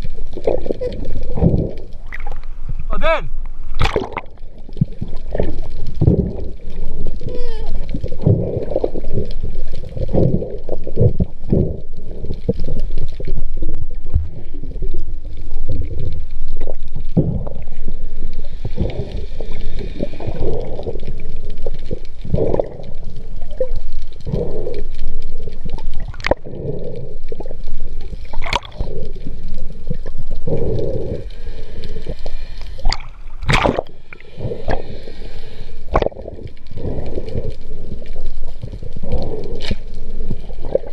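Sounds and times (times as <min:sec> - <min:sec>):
water rushing underwater: 0:00.0 - 0:40.9.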